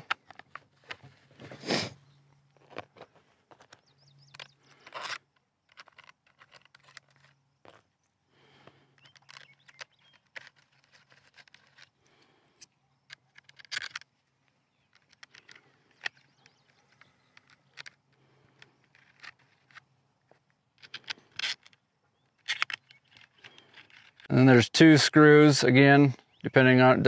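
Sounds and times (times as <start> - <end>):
small metal clicks and scrapes: 2.5 - 24.3.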